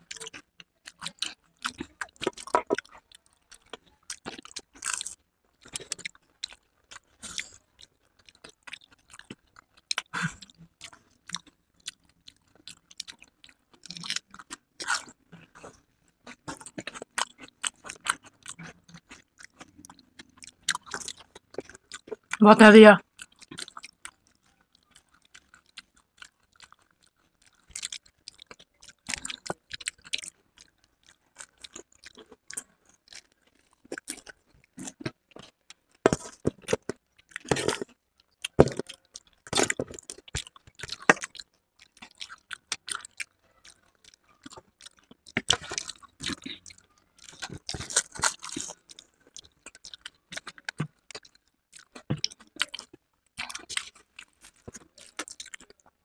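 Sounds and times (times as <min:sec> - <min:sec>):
chewing and crunching crisp food: 0:00.0 - 0:56.0.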